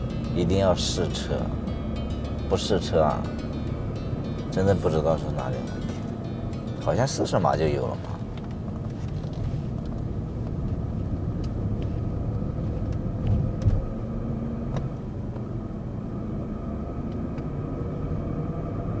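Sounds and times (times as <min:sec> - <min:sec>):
low road rumble in car: 0:00.0 - 0:19.0.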